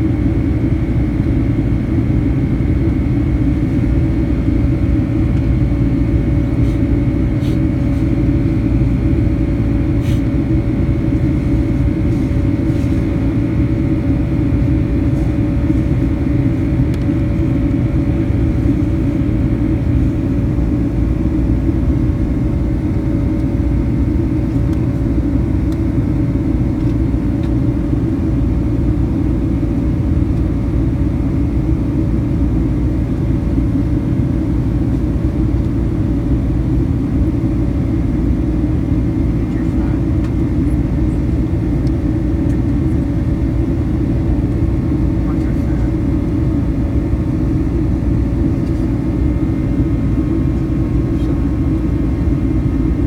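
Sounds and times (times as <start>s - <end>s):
aircraft cabin engine rumble: 0.0s - 53.0s.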